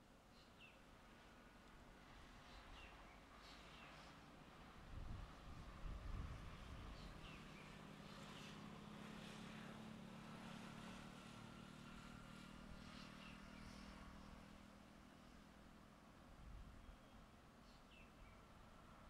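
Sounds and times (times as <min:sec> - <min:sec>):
distant engine hum: 0:00.0 - 0:19.0.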